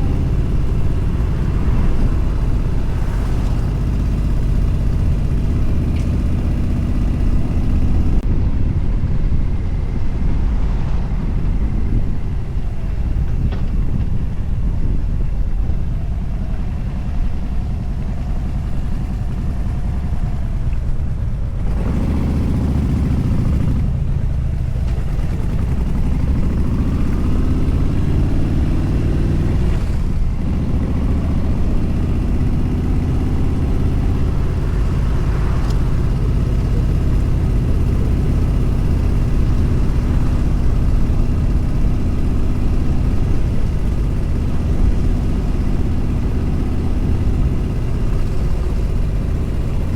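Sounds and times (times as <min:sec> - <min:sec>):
motorcycle engine revving: 0:00.0 - 0:08.3, 0:15.8 - 0:49.9
wind rush: 0:00.0 - 0:49.9.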